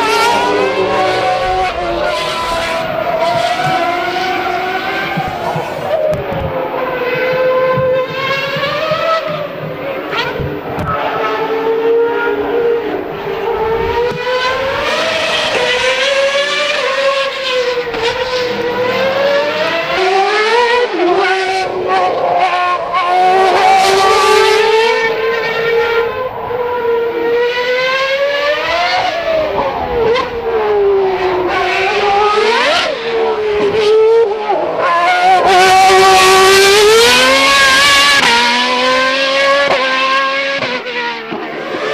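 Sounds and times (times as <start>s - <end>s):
racing car engines at high revs: 0.0s - 41.9s.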